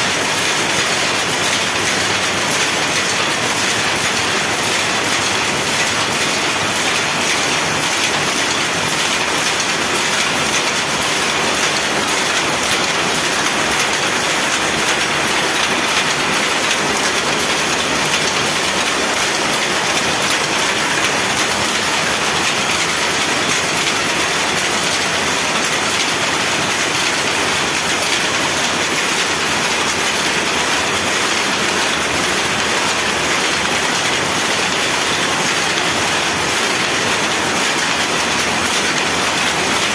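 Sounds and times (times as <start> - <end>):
power loom clattering: 0.0 - 39.9.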